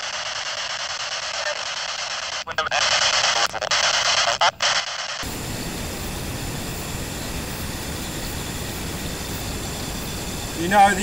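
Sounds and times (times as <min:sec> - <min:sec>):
radio speaker hissing static: 0:00.0 - 0:11.0
steady background hiss and rumble: 0:00.0 - 0:11.0.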